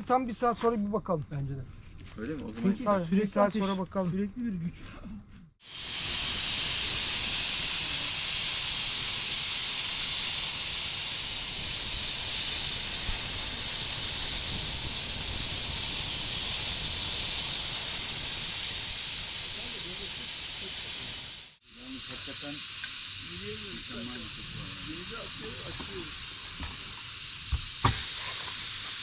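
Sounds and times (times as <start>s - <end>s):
pressure cooker steam hissing: 5.6s - 29.0s.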